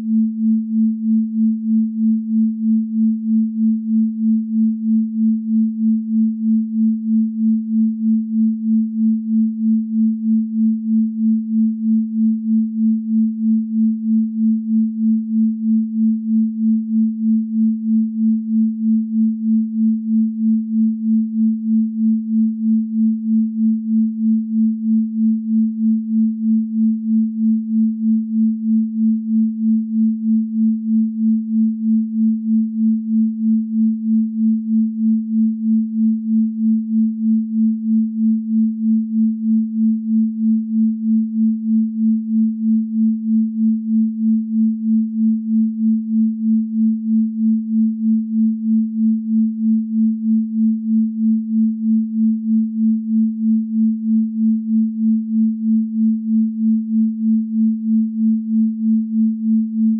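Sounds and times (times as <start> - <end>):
pulsing pure sine tone: 0.0 - 59.9.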